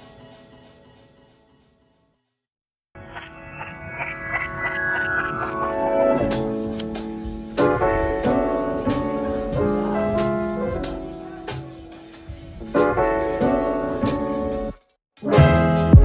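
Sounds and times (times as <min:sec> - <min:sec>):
piano chords: 0:03.0 - 0:16.0.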